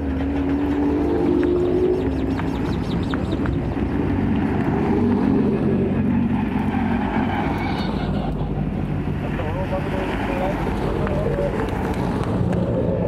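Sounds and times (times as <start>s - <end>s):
rally car engines passing: 0.0s - 13.0s.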